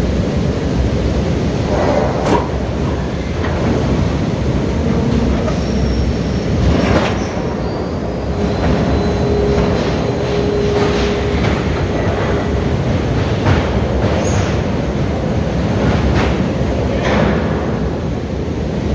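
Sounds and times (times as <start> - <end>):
heavy machinery rumbling: 0.0 - 16.3.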